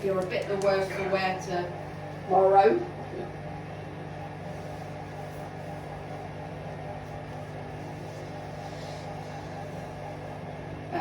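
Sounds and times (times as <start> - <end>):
washing machine humming: 0.0 - 11.0.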